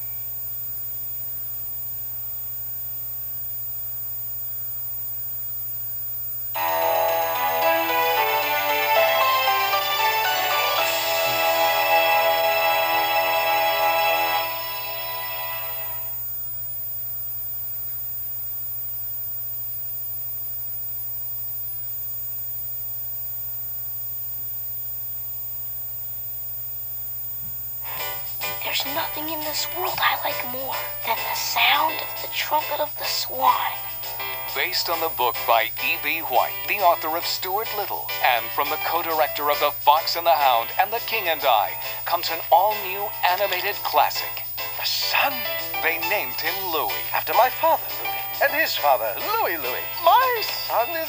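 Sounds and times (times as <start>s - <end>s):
low hum with hiss: 0.0s - 51.0s.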